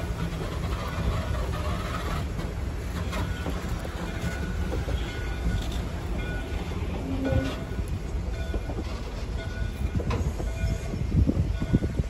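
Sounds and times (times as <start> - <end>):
low rumble of wheels on rail: 0.0 - 12.0
wheels clicking over rail joints: 0.0 - 12.0.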